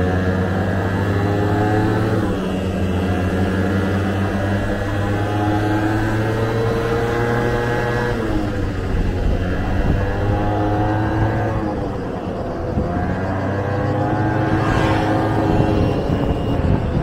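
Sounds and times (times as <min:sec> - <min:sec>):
scooter engine accelerating: 0:00.0 - 0:17.0.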